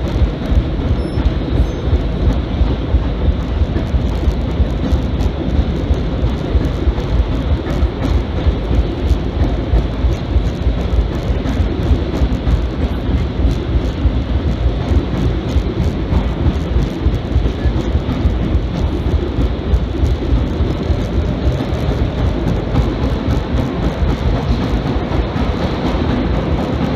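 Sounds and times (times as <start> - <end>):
faint rapid clicks: 0.0 - 26.9
wheels rumbling on rail: 0.0 - 26.9.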